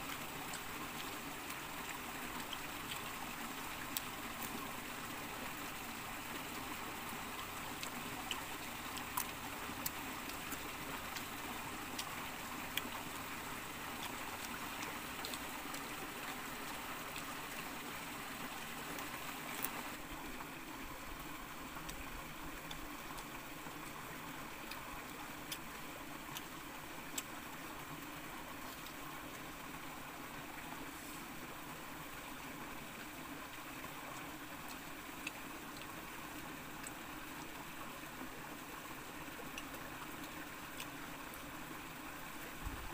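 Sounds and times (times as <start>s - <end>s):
rocky stream trickling: 0.0s - 42.9s.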